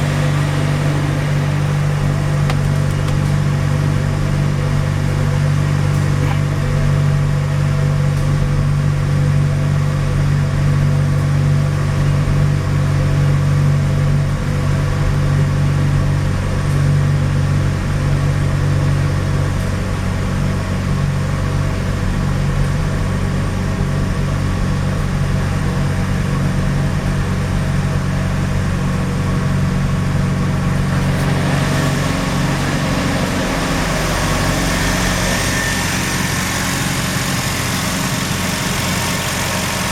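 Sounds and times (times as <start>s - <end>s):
rotary engine idling roughly: 0.0s - 39.9s.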